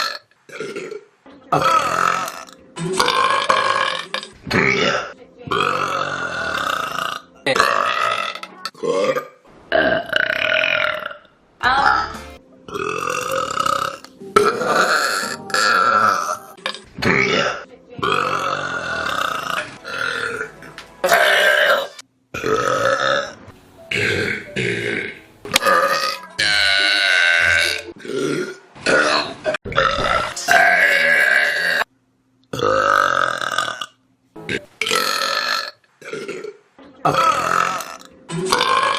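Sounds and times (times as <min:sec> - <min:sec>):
loud human burps: 0:00.0 - 0:11.3, 0:12.7 - 0:31.9, 0:32.5 - 0:38.9.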